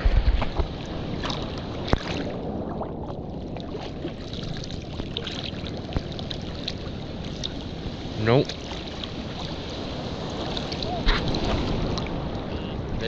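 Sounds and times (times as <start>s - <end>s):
sea water sloshing: 0.0s - 13.0s.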